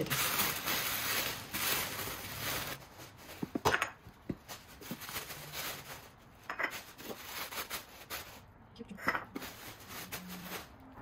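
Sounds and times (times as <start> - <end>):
tissue paper rustling: 0.0 - 3.6, 4.3 - 8.5, 9.4 - 11.0.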